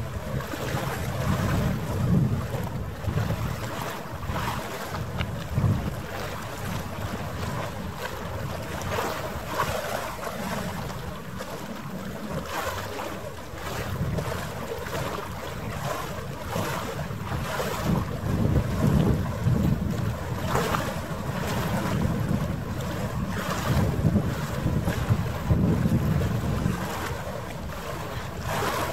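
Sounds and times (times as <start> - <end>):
harbour water washing: 0.0 - 28.9
wind buffeting microphone: 0.0 - 28.9.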